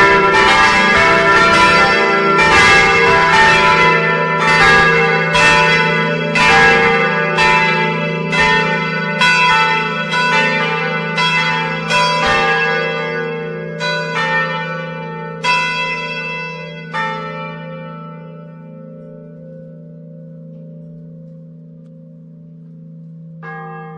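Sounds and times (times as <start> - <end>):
church bells ringing: 0.0 - 23.9.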